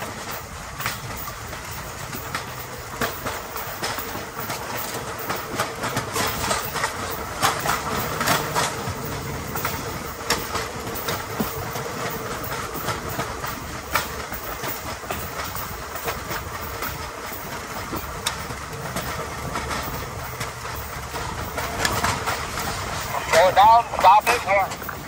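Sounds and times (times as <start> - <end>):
rail bike wheels rolling on track: 0.0 - 25.0
wheels clacking on rails: 0.0 - 25.0.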